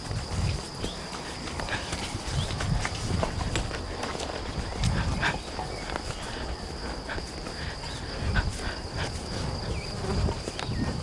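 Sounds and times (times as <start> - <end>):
footsteps in grass: 0.0 - 11.0
insects trilling: 0.0 - 11.0.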